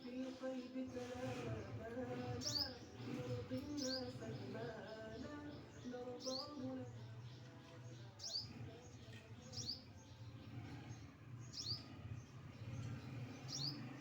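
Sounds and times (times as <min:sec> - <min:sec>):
small bird chirping: 0:02.3 - 0:14.0.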